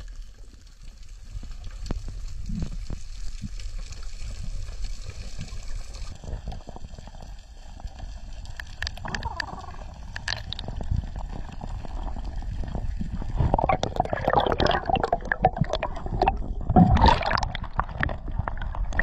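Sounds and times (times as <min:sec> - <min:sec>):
underwater water rumble with gurgling: 0:00.0 - 0:19.0
bubbling: 0:01.2 - 0:19.0.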